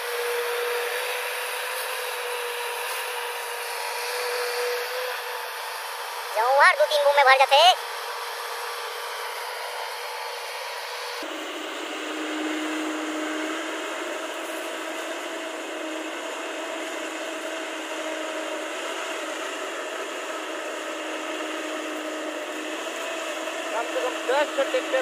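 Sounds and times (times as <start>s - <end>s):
constant humming tone: 0.0s - 25.0s
excavator diesel engine droning: 0.0s - 25.0s.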